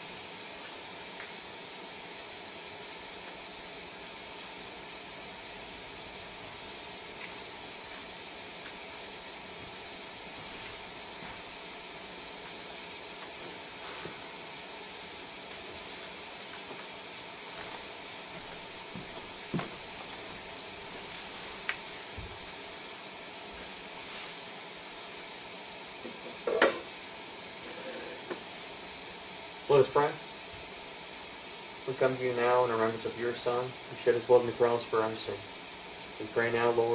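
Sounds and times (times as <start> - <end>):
background hiss: 0.0 - 36.9.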